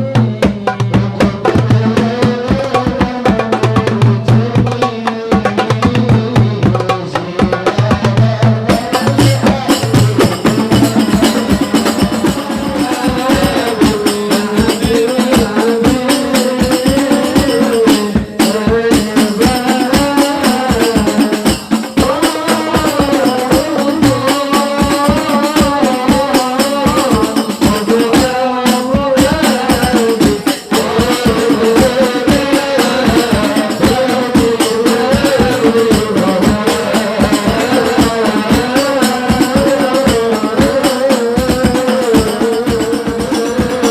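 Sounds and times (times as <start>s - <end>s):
hand drum and jingle percussion: 0.0s - 43.9s.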